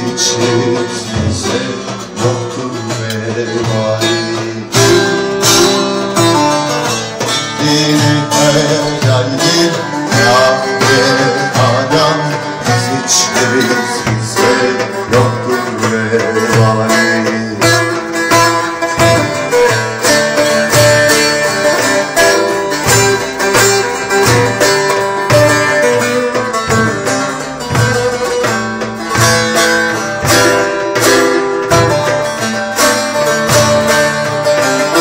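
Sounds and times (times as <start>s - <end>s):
goblet drum rhythm: 0.0s - 35.0s
plucked long-necked lute melody: 0.0s - 35.0s.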